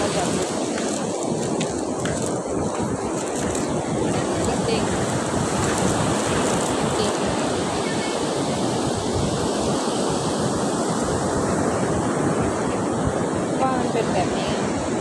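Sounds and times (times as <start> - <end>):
surf washing on a beach: 0.0 - 15.0
wind buffeting the microphone: 0.0 - 15.0.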